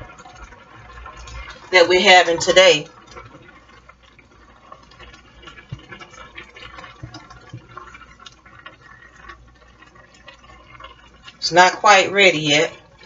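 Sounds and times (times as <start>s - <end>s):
sauce bubbling and crackling: 0.0s - 13.0s.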